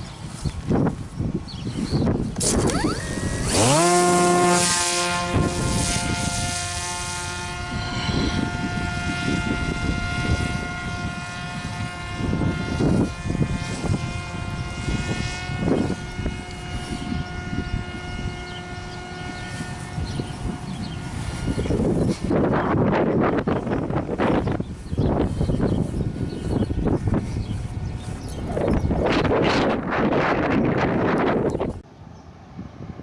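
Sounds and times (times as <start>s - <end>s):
drone propeller whining: 0.0s - 33.0s
wind gusts on microphone: 0.0s - 33.0s.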